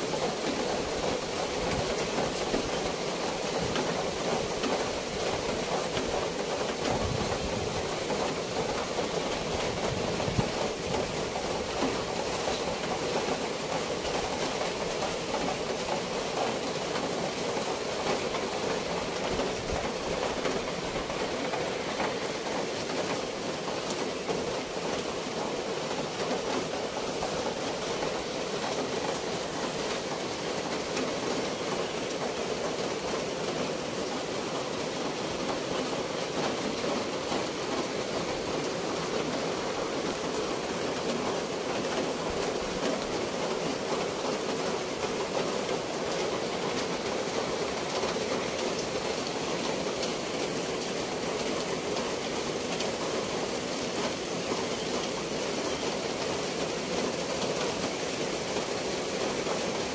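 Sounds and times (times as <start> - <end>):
outdoor nature ambience rushing: 0.0 - 59.9.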